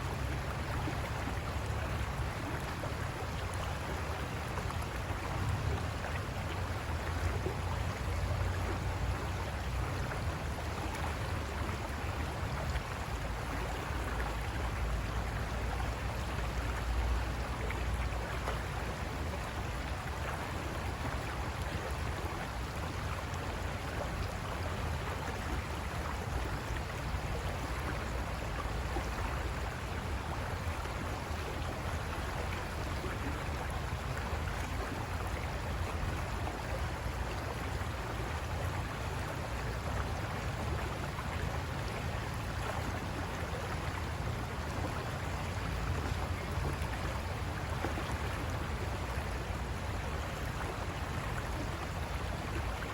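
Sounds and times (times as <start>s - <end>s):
river water rushing over rocks: 0.0s - 52.9s.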